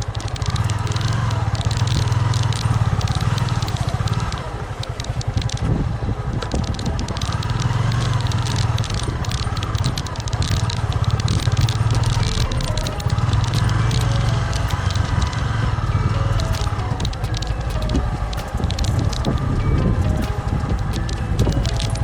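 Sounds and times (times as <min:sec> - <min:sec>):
crackling and rattling: 0:00.0 - 0:22.0.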